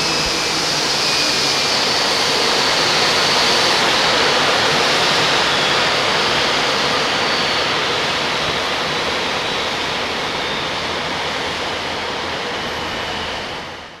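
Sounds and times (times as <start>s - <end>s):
jet engine spooling down: 0.0s - 14.0s.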